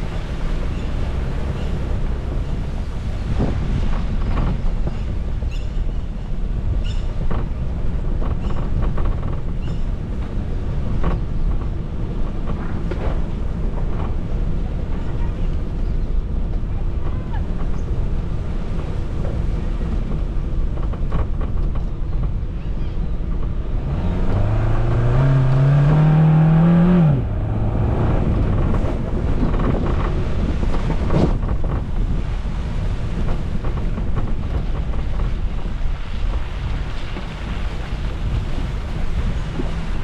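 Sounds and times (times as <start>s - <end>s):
car engine revving off-road: 0.0s - 40.0s
wind buffeting microphone: 0.0s - 40.0s.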